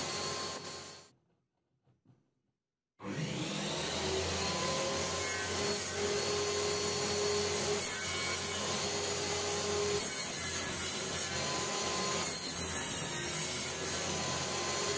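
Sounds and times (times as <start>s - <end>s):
table saw cutting wood: 0.0s - 1.1s, 3.0s - 14.9s.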